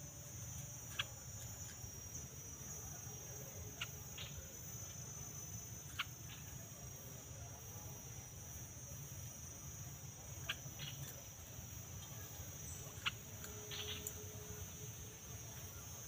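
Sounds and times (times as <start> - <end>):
high-pitched insect chorus: 0.0 - 16.0
sharp cricket chirps: 0.0 - 16.0.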